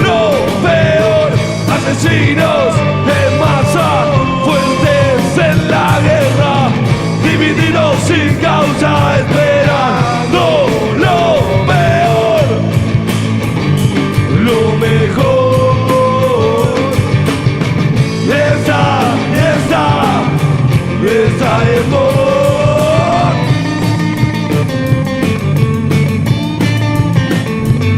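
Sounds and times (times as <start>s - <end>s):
bass: 0.0s - 27.9s
lead guitar line bending in pitch: 0.0s - 27.9s
steady drums: 0.0s - 27.9s.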